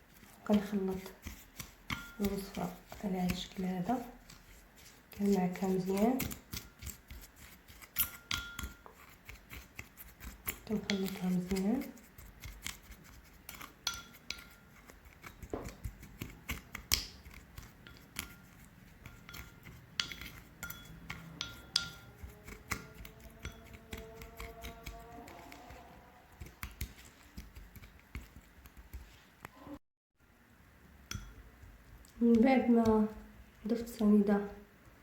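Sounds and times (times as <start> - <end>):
mixing in a bowl with clicks and scraping: 0.0 - 29.8, 30.8 - 35.0.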